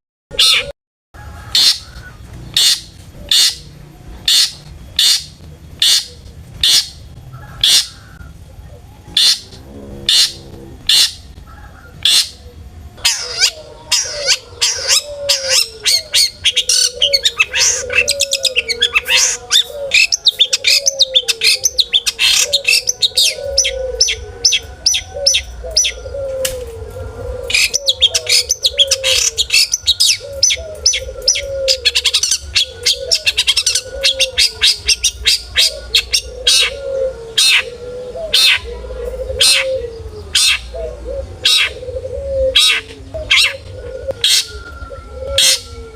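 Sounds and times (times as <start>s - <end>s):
shrike singing: 1.3s - 45.9s.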